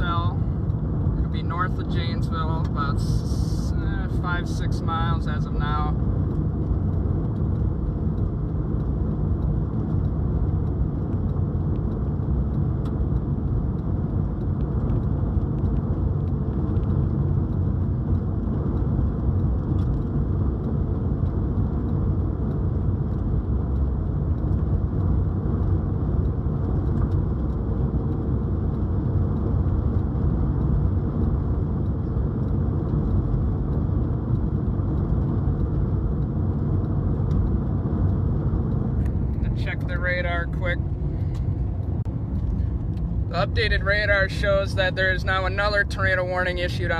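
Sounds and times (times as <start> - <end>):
car engine and tyres droning: 0.0 - 46.9.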